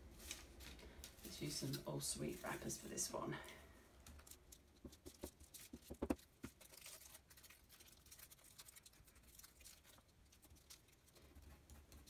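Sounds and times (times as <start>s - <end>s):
sweet wrappers crinkling: 0.1s - 11.2s.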